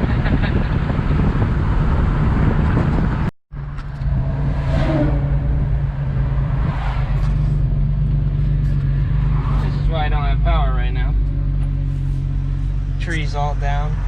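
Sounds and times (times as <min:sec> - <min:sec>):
pickup engine and road noise: 0:00.0 - 0:14.0.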